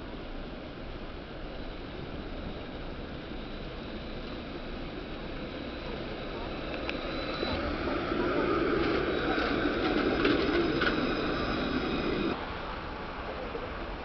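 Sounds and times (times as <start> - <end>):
faint high whine: 0.0 - 13.6
background noise: 0.0 - 14.0
tram rumbling on track: 0.0 - 14.0.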